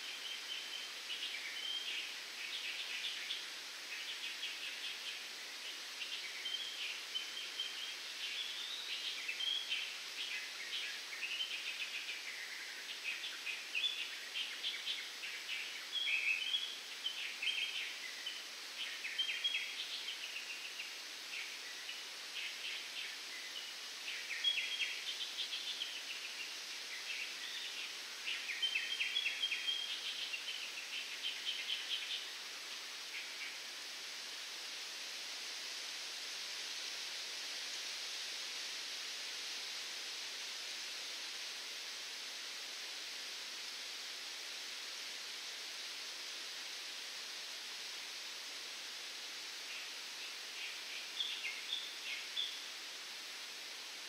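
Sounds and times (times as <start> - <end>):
wind through palm fronds: 0.0 - 54.0.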